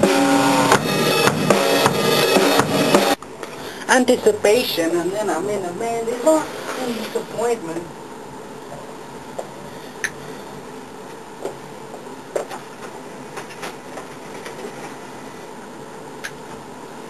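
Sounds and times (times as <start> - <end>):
electrical hum and hiss: 0.0 - 17.0.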